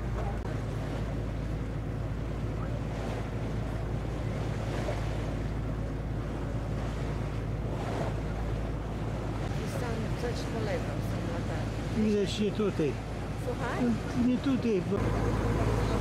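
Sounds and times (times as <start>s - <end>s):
boat engine humming: 0.0s - 16.0s
water washing: 0.0s - 16.0s.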